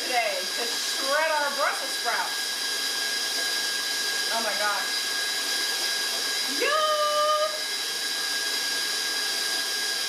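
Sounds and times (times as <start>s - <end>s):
stand mixer motor whirring: 0.0s - 10.0s.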